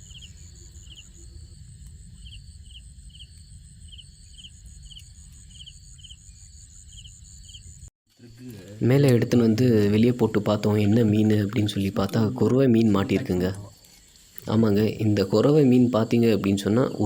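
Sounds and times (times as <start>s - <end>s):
crickets and insects trilling: 0.0s - 17.0s.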